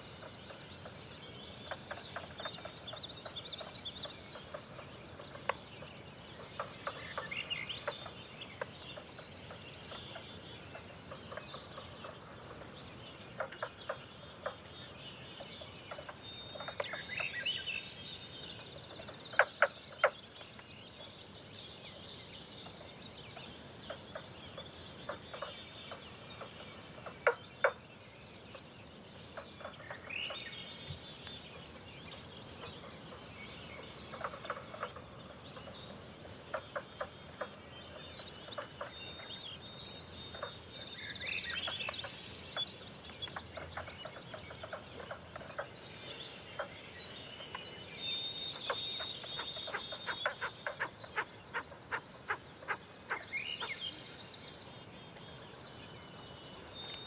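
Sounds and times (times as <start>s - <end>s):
birds singing and calling: 0.0s - 57.0s.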